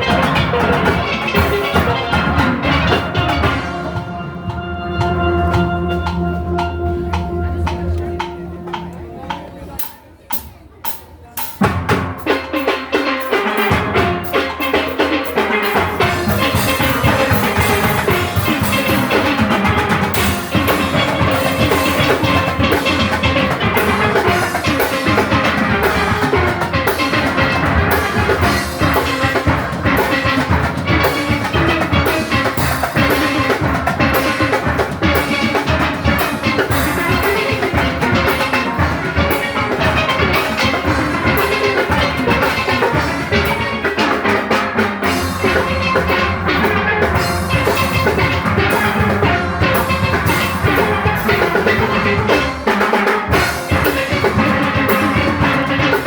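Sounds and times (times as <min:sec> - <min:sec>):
steelpans playing: 0:00.0 - 0:10.5, 0:11.5 - 0:56.0
drum kit and percussion: 0:00.0 - 0:56.0.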